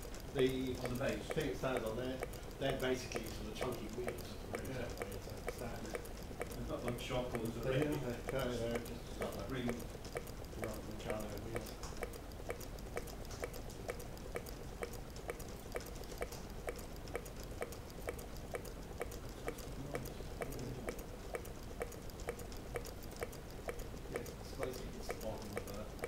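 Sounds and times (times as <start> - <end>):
stirling engine clicking: 0.0 - 26.0.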